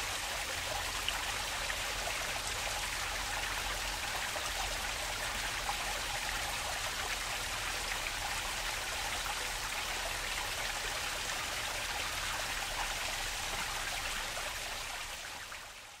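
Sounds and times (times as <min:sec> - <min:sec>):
stream water rushing and splashing: 0:00.0 - 0:16.0.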